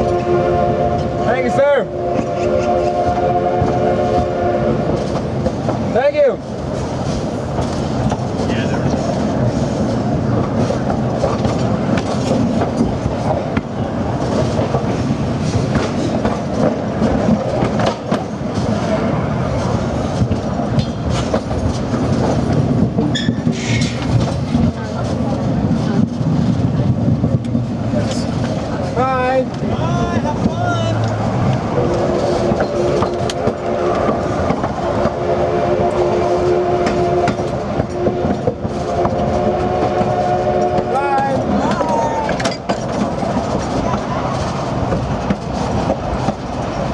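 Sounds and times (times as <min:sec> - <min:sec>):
train car rumbling on track: 0:00.0 - 0:46.9
wheels clacking over rail joints: 0:00.0 - 0:46.9.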